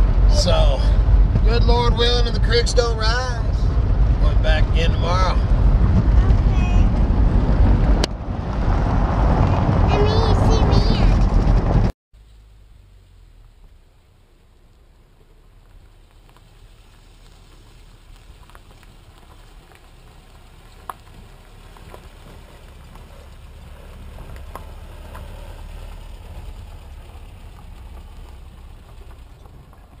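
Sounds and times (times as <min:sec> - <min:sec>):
vehicle driving on dirt road: 0:00.0 - 0:30.0.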